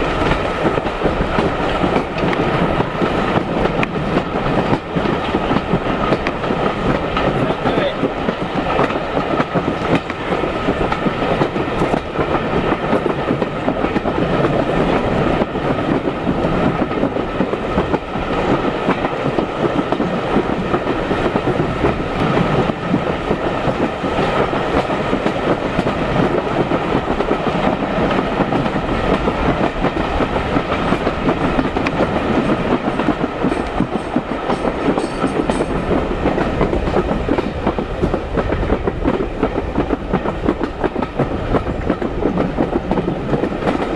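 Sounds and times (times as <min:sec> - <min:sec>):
train wheels on rail: 0:00.0 - 0:43.9.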